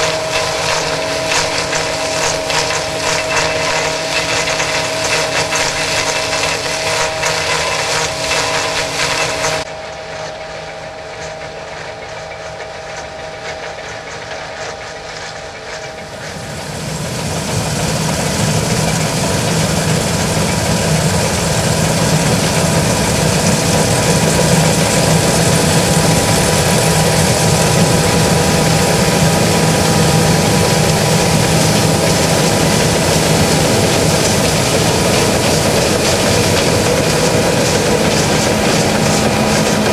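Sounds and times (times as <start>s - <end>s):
combine harvester humming: 0.0s - 39.9s.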